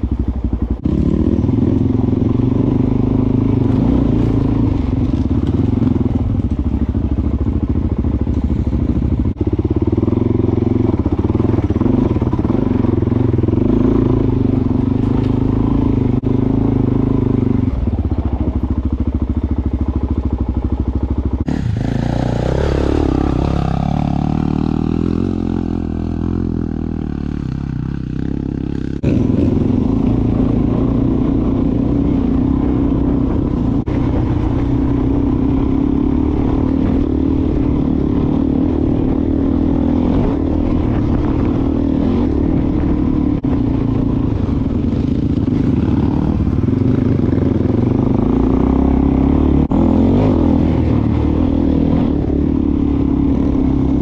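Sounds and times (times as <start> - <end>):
dirt bike engine running: 0.0 - 54.0
dirt bike passing by: 0.0 - 54.0.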